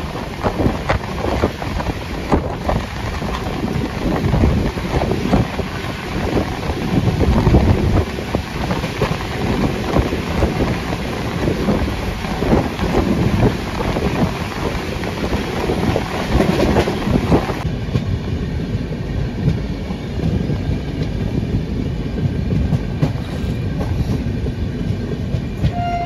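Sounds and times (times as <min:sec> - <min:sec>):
wind buffeting microphone: 0:00.0 - 0:25.8
train running rumble: 0:00.0 - 0:26.0.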